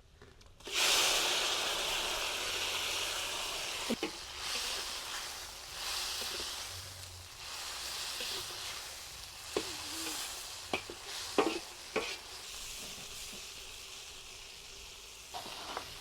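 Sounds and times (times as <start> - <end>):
food sizzling in hot oil: 0.6 - 16.0.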